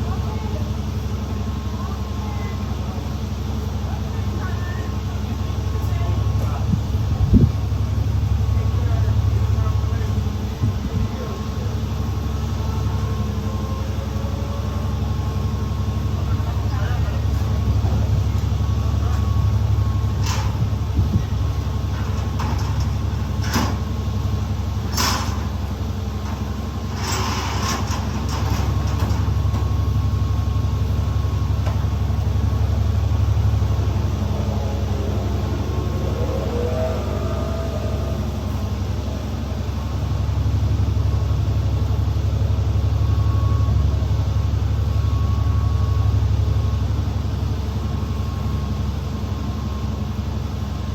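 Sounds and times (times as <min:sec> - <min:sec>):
bus body rattling and clunking: 0:00.0 - 0:50.9
bus engine and road rumble: 0:00.0 - 0:50.9.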